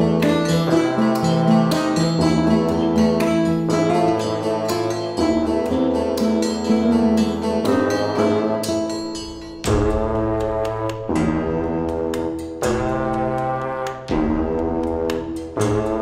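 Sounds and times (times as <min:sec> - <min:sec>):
plucked notes over held bass: 0:00.0 - 0:16.0.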